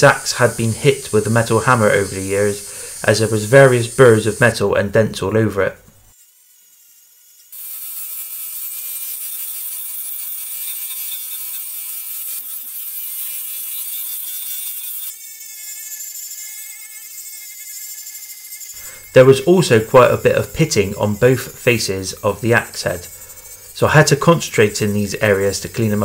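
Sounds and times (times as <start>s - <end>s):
abrasive grinding hiss on steel: 0.0s - 4.8s, 7.5s - 26.0s
angle grinder motor whine: 0.0s - 5.4s, 6.1s - 26.0s.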